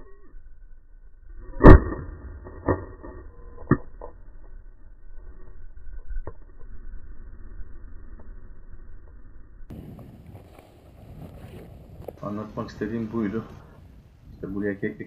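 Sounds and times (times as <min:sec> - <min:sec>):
wind rumble on microphone: 0:01.2 - 0:15.0.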